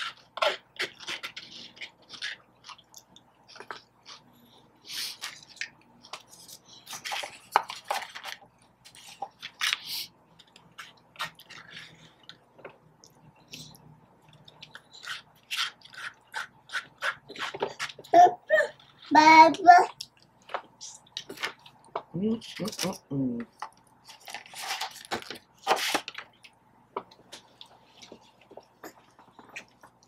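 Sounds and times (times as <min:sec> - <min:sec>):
person chewing food: 0:00.0 - 0:18.1, 0:23.6 - 0:30.0.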